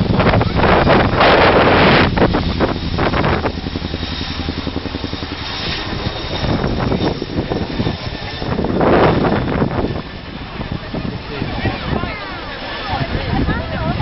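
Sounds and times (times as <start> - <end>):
helicopter engine noise: 0.0 - 14.0
helicopter rotors beating: 0.0 - 14.0
wind buffeting microphone: 0.0 - 14.0.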